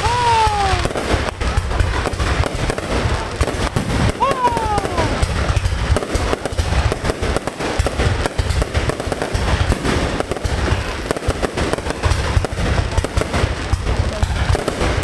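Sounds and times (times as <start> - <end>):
fireworks bangs and booms: 0.0 - 15.0
fireworks crackle: 0.0 - 15.0.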